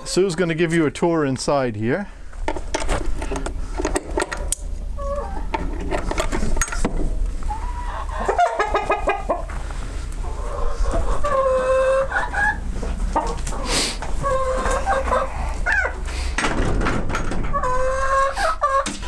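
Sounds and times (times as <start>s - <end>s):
chickens clucking: 2.4s - 16.6s, 17.3s - 19.0s.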